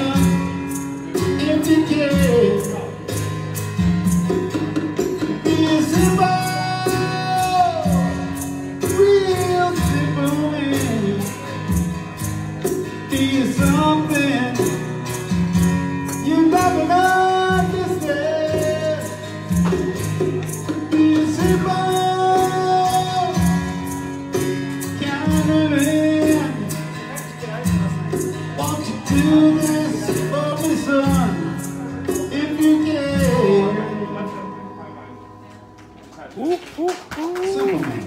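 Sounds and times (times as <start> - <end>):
strummed acoustic guitar: 0.0 - 36.1.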